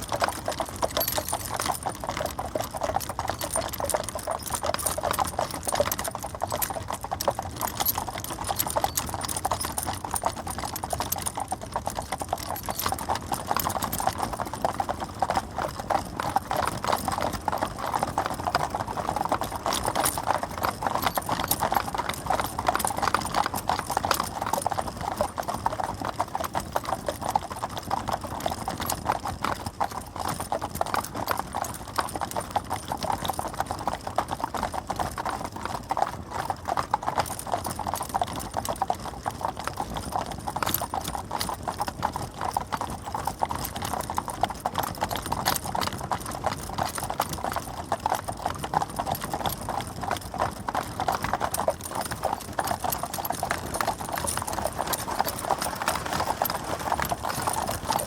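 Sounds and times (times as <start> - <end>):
horse hooves clip-clopping: 0.0 - 58.0.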